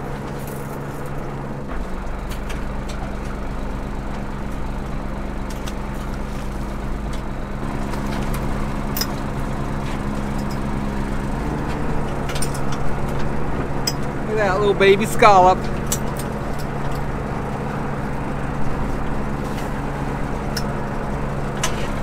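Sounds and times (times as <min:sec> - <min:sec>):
boat engine and hydraulic hauler: 0:00.0 - 0:22.0.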